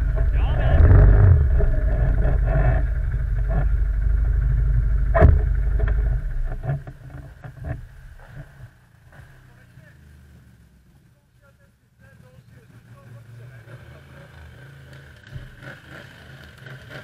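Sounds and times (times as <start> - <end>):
quad engine running: 0.0 - 17.0.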